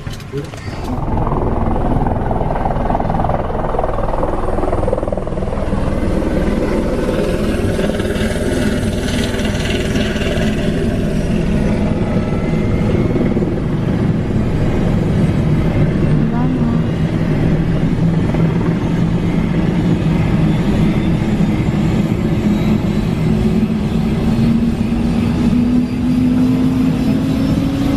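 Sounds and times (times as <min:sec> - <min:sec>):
helicopter turbine and rotor: 0:00.0 - 0:27.9.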